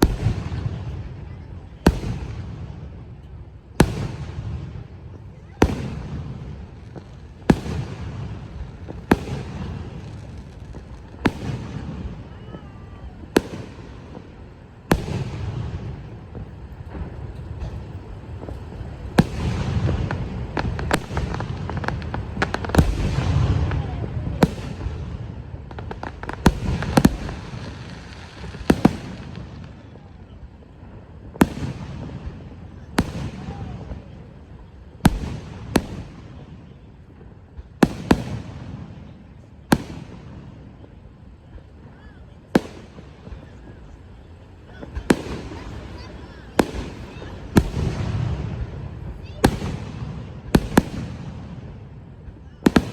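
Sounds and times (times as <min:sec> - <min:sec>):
fireworks bangs: 0:00.0 - 0:52.9
fireworks crackle: 0:00.0 - 0:52.9.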